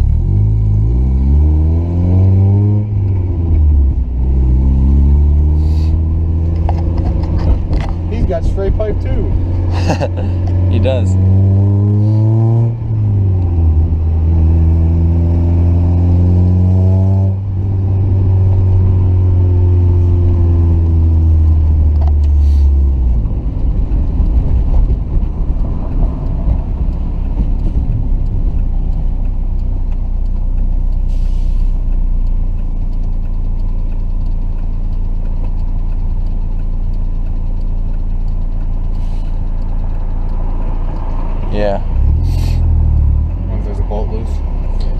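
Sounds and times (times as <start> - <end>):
car engine revving and shifting: 0.0 - 32.0, 37.8 - 44.9.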